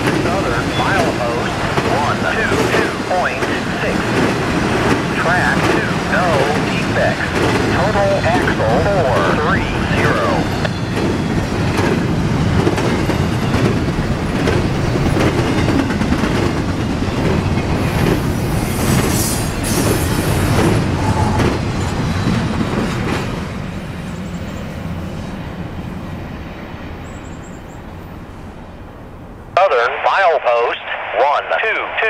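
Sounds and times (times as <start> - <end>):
freight train passing: 0.0 - 32.0.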